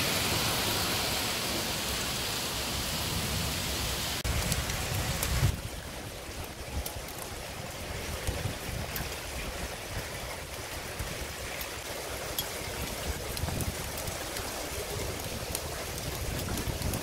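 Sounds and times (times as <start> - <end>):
heavy rain falling: 0.0 - 17.0
raindrops ticking on surfaces: 0.0 - 17.0.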